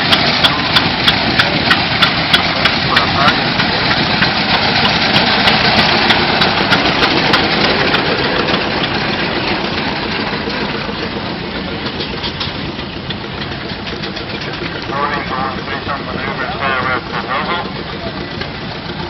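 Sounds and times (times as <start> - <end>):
old engine idling with knocking: 0.0 - 19.0.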